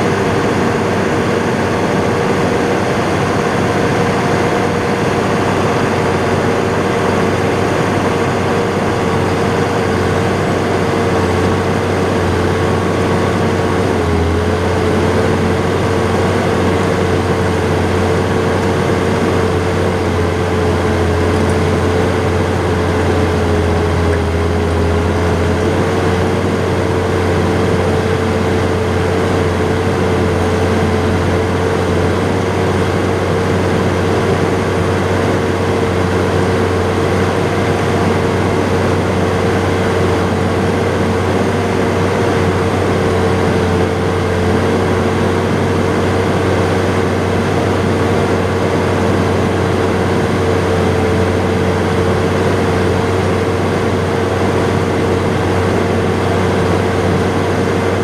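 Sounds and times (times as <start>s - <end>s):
steady whine: 0.0s - 58.0s
tractor diesel engine droning: 0.0s - 58.0s.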